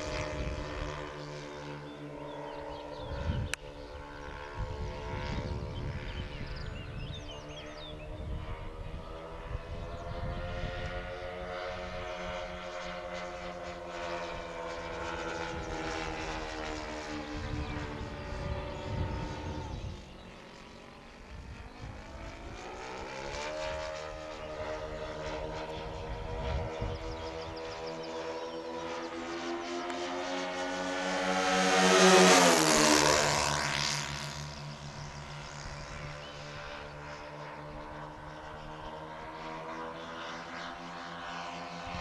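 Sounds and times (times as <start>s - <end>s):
model airplane engines droning: 0.0s - 42.0s.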